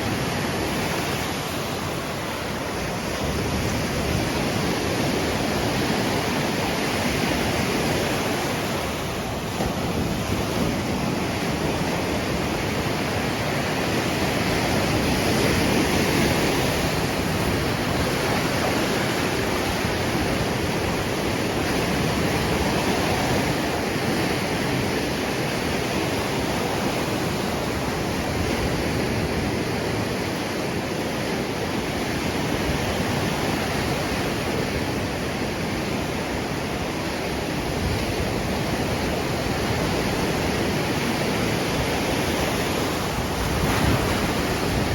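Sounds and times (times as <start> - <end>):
surf washing onto sand beach: 0.0 - 44.9
wind on microphone: 0.0 - 44.9.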